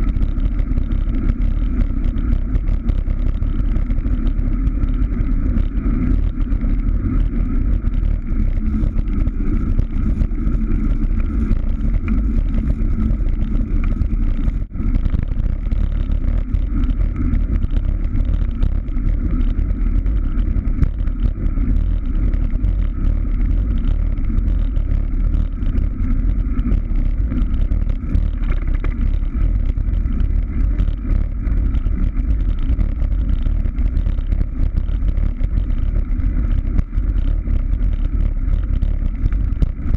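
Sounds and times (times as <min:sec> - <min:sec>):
bicycle tyre noise on asphalt: 0:00.0 - 0:39.9
wind rush on microphone: 0:00.0 - 0:39.9.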